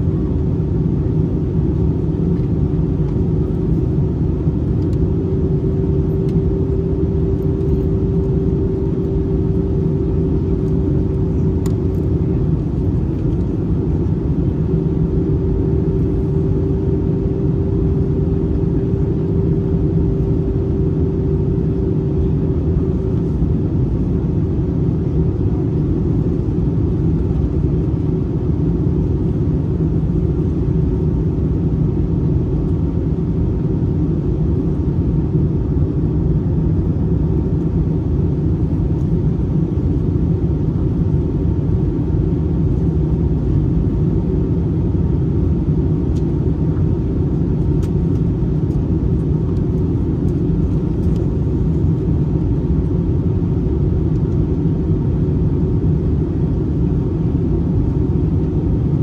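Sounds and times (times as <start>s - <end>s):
jet engine drone: 0.0s - 59.0s
steady hum: 0.0s - 59.0s.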